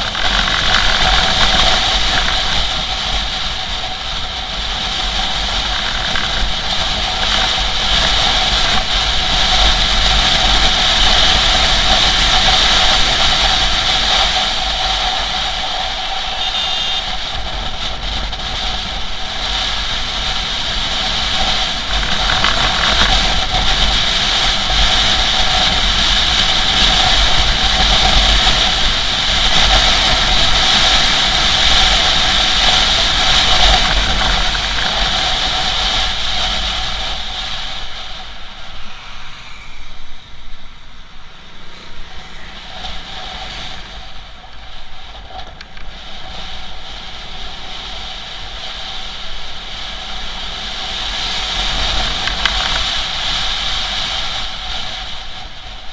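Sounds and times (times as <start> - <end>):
motorcycle engine drone: 0.0 - 55.9
wind rushing over microphone: 0.0 - 55.9.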